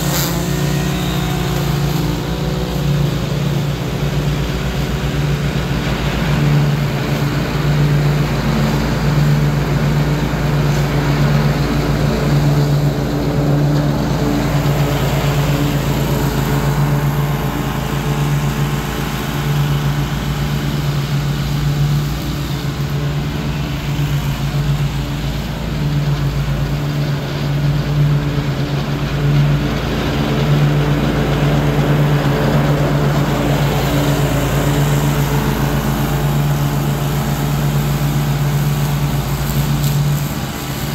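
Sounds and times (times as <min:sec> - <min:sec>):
riding mower engine running: 0:00.0 - 0:40.9.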